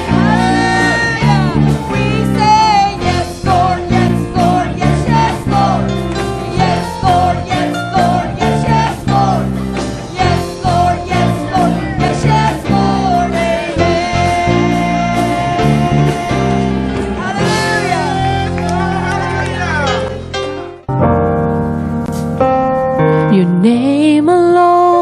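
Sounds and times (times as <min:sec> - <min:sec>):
worship band music: 0:00.0 - 0:22.4.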